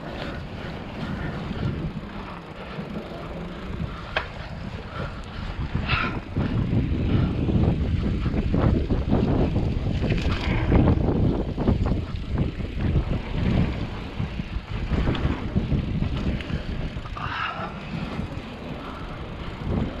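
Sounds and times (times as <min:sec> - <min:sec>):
mountain bike rumbling and rattling: 0:00.0 - 0:20.0.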